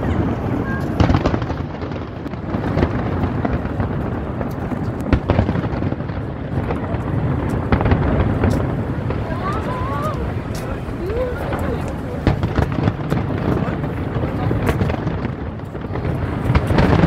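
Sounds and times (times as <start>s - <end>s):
rumble of firework booms: 0.0s - 17.0s
sharp firework bangs: 0.0s - 17.0s.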